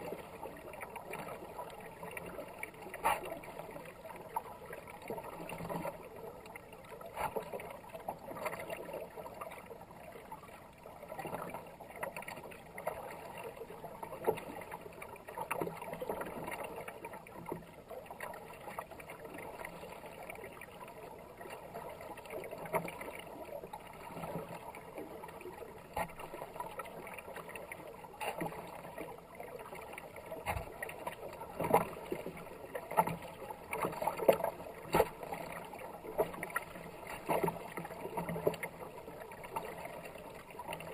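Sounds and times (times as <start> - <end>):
paddle splashes: 0.0 - 40.9.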